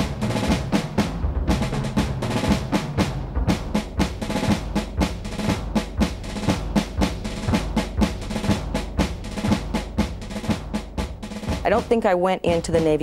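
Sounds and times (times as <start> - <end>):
background music with drumbeat: 0.0 - 13.0.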